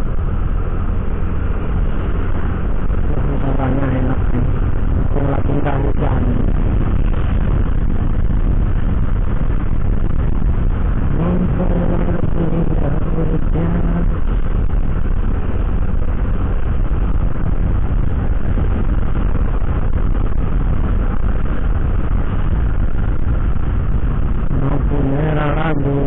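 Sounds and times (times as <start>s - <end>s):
scooter engine and tyre noise: 0.0s - 26.0s
wind buffeting microphone: 0.0s - 26.0s.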